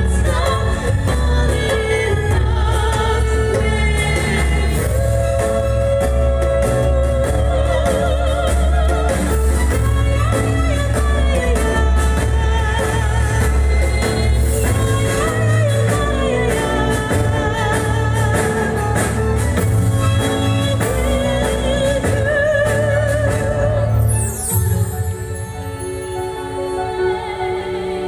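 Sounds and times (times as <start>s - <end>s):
amplified accompaniment with bass: 0.0s - 25.8s
women singing duet: 0.0s - 28.0s.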